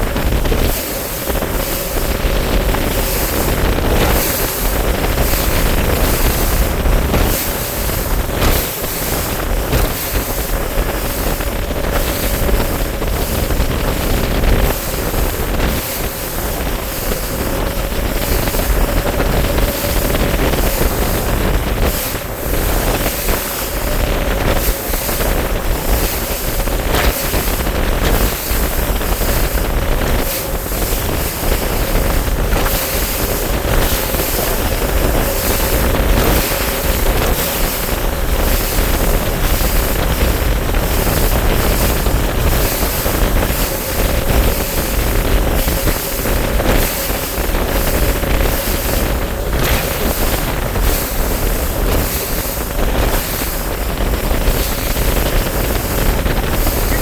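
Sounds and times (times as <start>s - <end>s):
boat motor humming: 0.0s - 57.0s
water rushing past hull: 0.0s - 57.0s
wind buffeting microphone: 0.0s - 57.0s.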